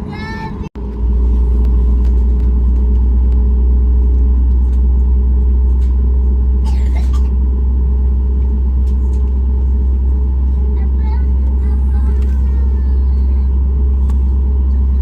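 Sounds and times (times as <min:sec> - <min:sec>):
jet engines and airflow rumble: 0:00.0 - 0:15.0
steady cabin hum: 0:00.0 - 0:15.0.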